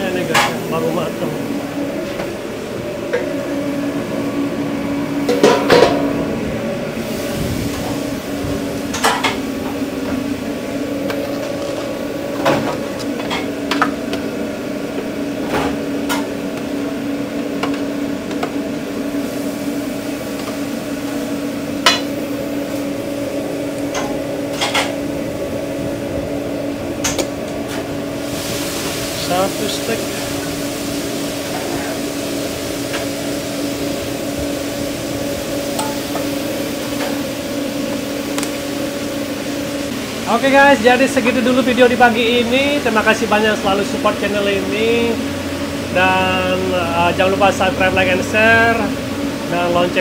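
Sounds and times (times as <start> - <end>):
kitchen equipment humming: 0.0 - 50.0.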